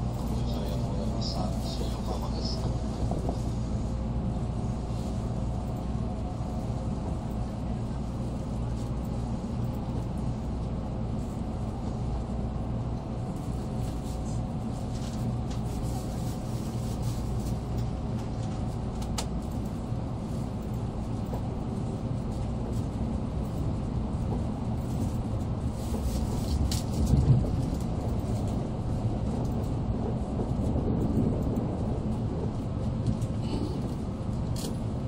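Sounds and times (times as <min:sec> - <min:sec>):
train low rumble: 0:00.0 - 0:35.0.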